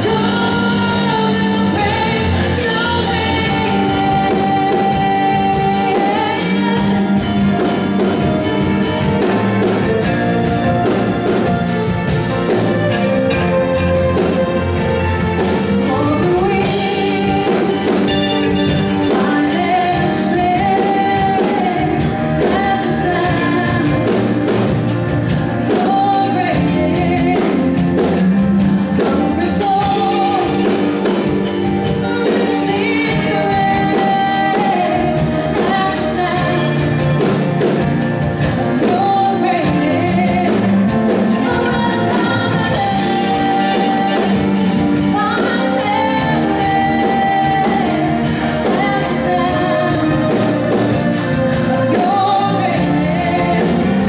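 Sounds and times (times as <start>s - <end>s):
live band playing: 0.0s - 54.0s
woman singing: 0.0s - 54.0s.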